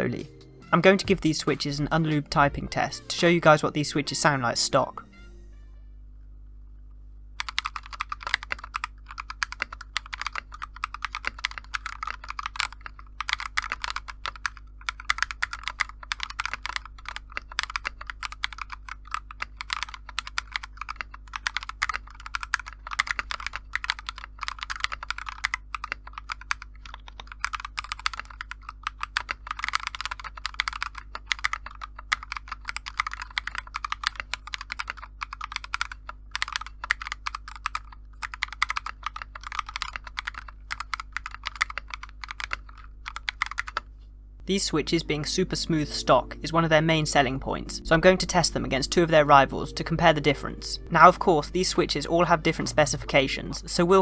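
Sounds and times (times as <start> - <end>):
mechanical keyboard typing: 0.0 - 5.0, 7.4 - 43.9, 44.5 - 54.0.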